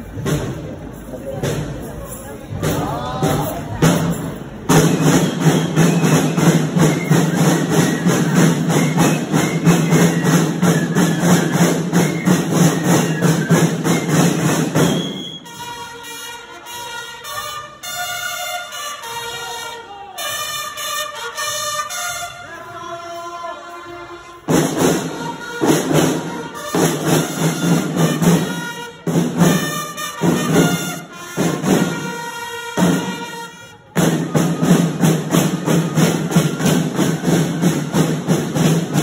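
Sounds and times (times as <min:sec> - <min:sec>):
snare drums marching beat: 0:00.0 - 0:01.9, 0:02.5 - 0:17.6, 0:24.5 - 0:39.0.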